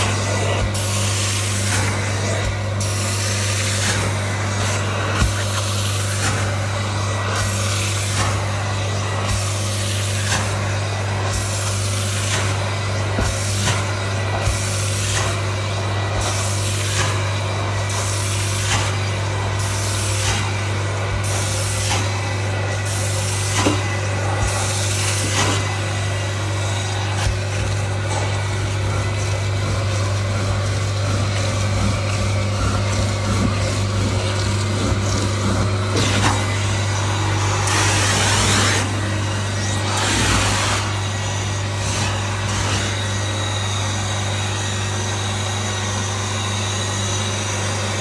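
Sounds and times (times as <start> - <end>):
suction hissing over carpet: 0.0 - 46.0
extraction machine motor hum: 0.0 - 48.0.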